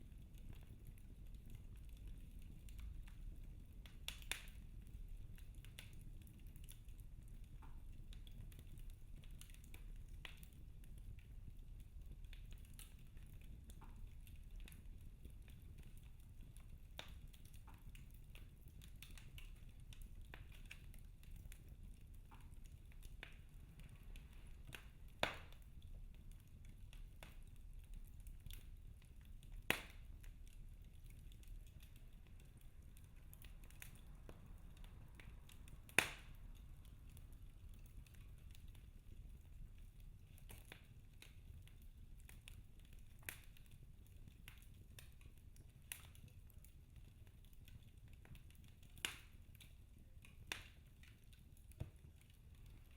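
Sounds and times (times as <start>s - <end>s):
wood fire crackling: 0.0s - 52.9s
fire pops: 0.1s - 46.4s, 47.2s - 52.9s.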